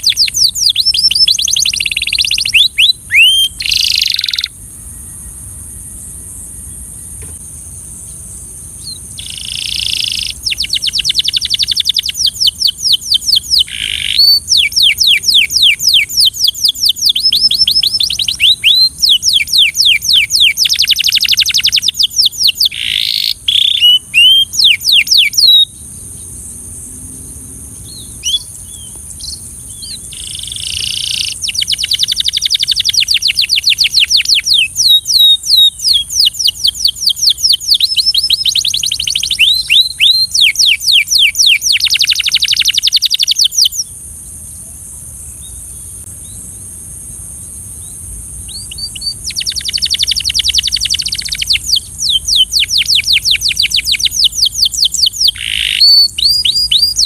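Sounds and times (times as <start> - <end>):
canary singing: 0.0 - 5.2, 8.8 - 25.8, 27.7 - 44.0, 48.4 - 57.0
steady high hiss: 0.0 - 57.0.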